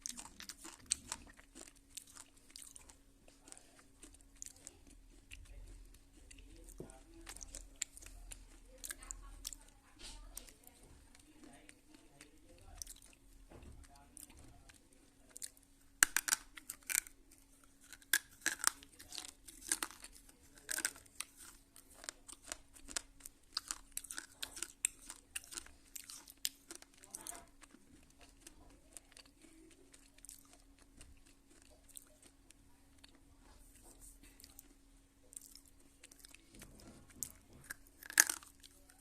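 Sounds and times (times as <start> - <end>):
crisp crunching chews: 0.0 - 39.0
faint steady hum: 0.0 - 39.0.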